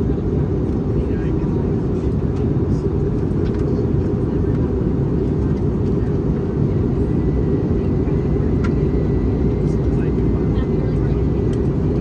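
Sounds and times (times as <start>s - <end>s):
airliner cabin roar: 0.0s - 12.0s.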